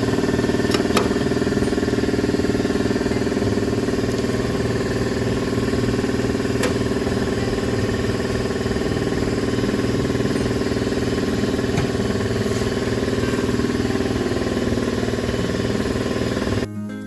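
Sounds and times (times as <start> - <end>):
machine pulsing drone: 0.0 - 16.7.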